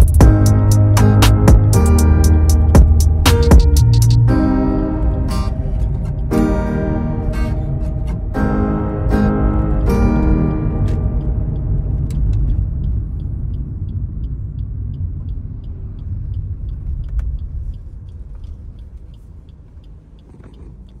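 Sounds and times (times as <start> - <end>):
faint regular ticking: 0.0 - 4.4, 7.8 - 21.0
car rumbling on road: 0.0 - 21.0.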